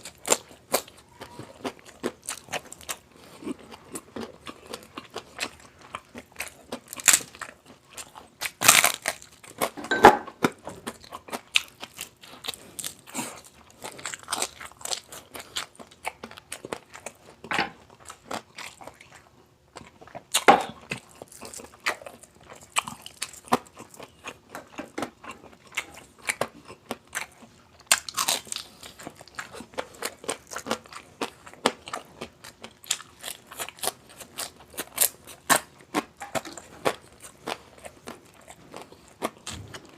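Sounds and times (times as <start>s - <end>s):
person chewing with crunches: 0.0s - 39.9s.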